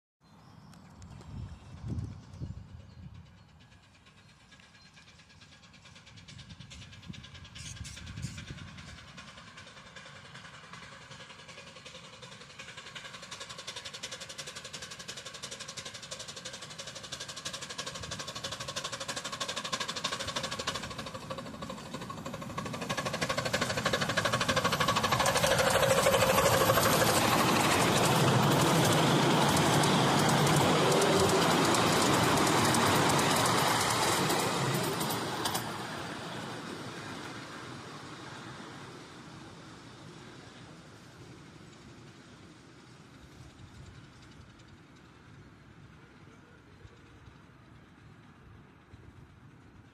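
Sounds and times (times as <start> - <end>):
miniature steam locomotive passing: 0.3 - 49.9.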